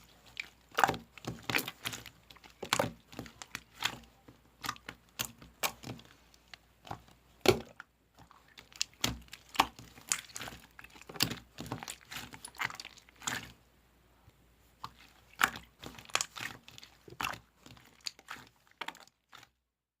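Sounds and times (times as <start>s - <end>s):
slime squishing with sticky clicks: 0.0s - 13.6s, 14.8s - 19.6s.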